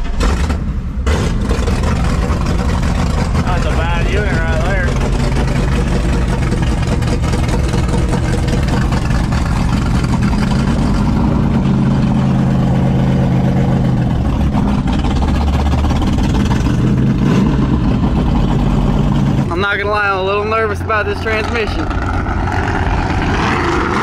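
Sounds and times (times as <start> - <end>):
truck engine running at low speed: 0.0 - 24.0.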